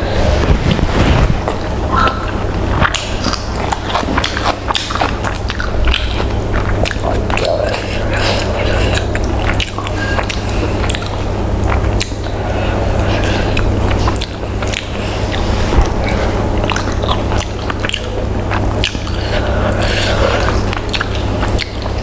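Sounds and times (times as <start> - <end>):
low hum: 0.0 - 22.0
chewing fried chicken: 0.4 - 22.0.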